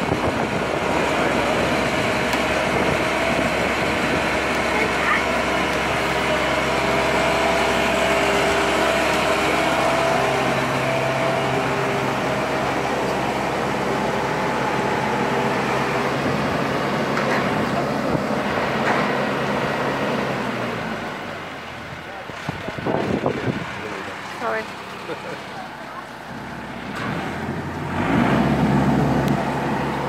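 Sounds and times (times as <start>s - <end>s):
engine and hydraulic drone: 0.0s - 30.0s.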